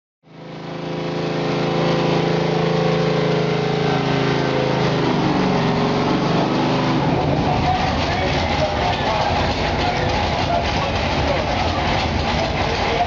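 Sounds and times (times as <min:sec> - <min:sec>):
truck engine running: 0:00.2 - 0:13.0.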